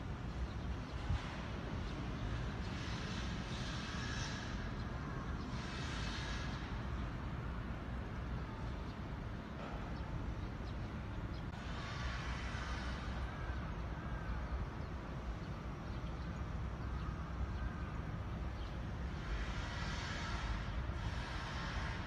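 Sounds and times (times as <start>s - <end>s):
low city rumble: 0.0s - 22.0s.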